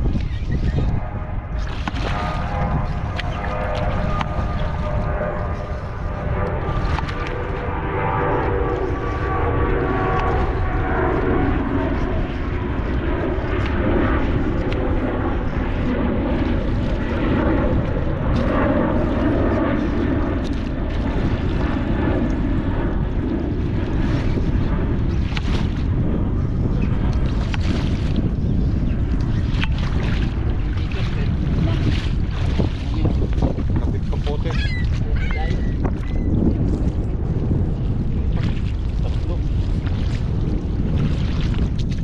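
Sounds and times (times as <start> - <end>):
engine-like drone: 0.0 - 42.0
faint droning tones: 0.0 - 42.0
wind buffeting the microphone: 0.0 - 42.0.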